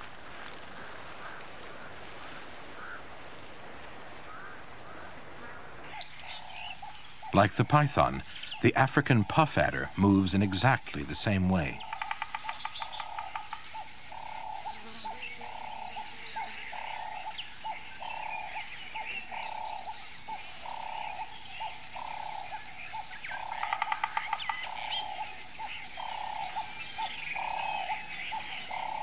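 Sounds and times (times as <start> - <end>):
frogs calling: 0.0 - 29.0.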